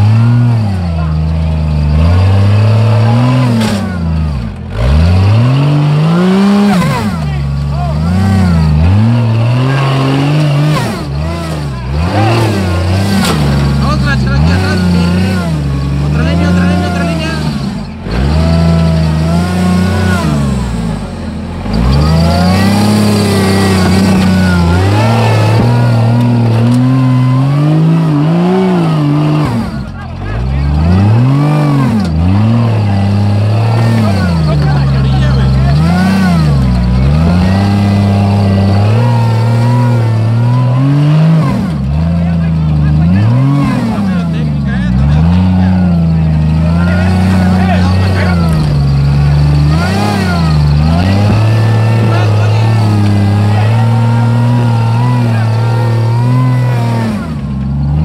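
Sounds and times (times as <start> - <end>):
engine revving hard: 0.0 - 58.0.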